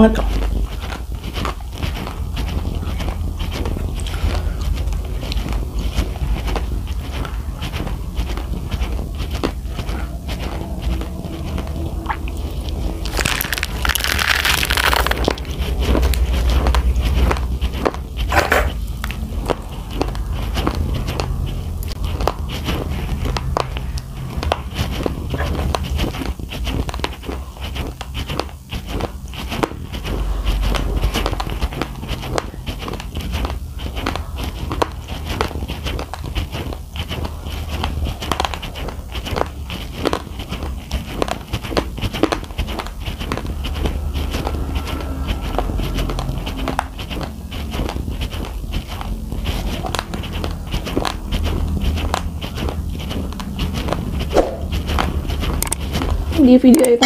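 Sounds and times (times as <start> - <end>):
crunching of raw rice grains: 0.1 - 57.0.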